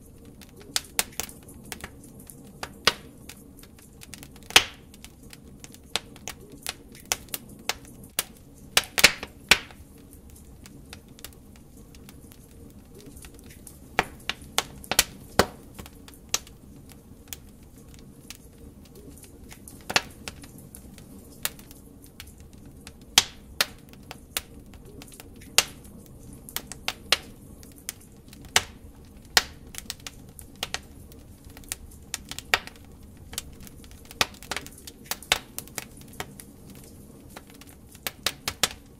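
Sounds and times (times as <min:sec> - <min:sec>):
fireplace logs crackling: 0:00.0 - 0:38.9
rush of flames: 0:00.0 - 0:38.9.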